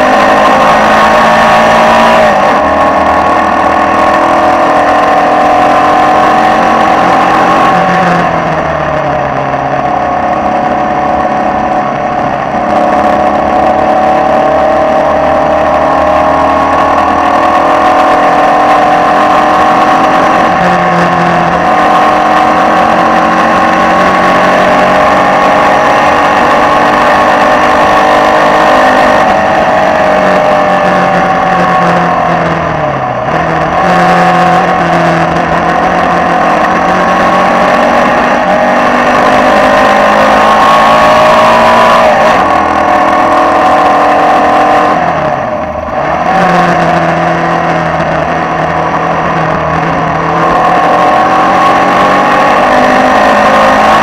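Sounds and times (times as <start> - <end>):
racing car engine running hard: 0.0 - 54.0.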